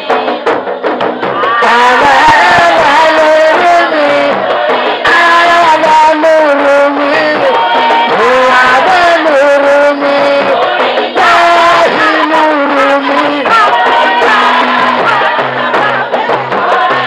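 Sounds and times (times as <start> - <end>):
women chanting together: 1.2 - 17.0.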